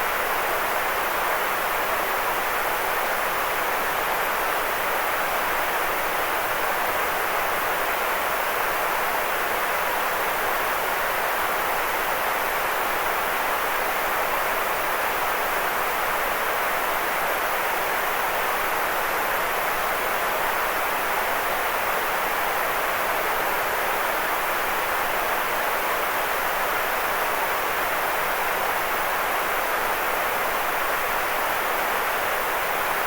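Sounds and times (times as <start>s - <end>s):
white noise hiss: 0.0s - 33.0s.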